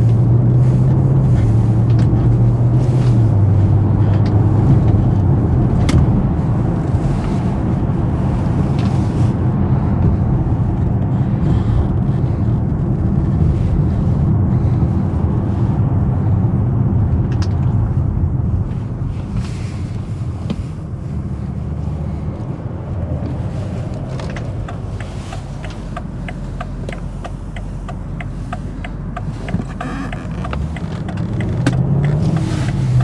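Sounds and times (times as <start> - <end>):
car engine rumble: 0.0 - 33.0
road noise: 0.0 - 33.0.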